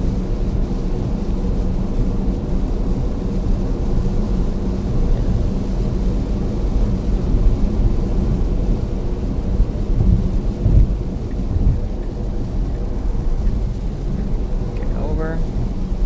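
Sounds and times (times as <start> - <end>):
low rumbles: 0.0 - 16.0
rain on a car: 0.0 - 16.0
road noise inside car: 0.0 - 16.0.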